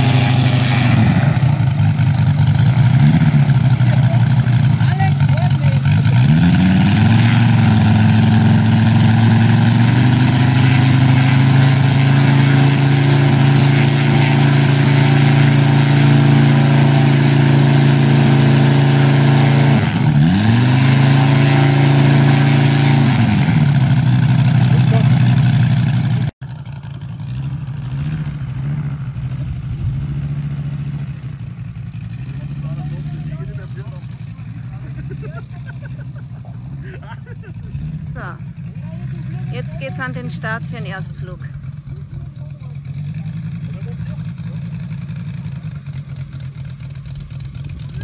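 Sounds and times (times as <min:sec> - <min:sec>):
distant engine: 0:00.0 - 0:48.0
model aircraft engine running: 0:00.0 - 0:48.0.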